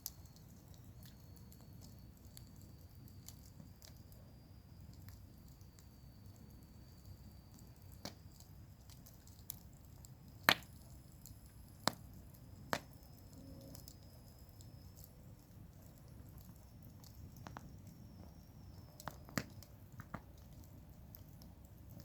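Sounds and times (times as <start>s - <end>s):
campfire rumbling: 0.0s - 22.0s
wood popping in fire: 0.0s - 22.0s.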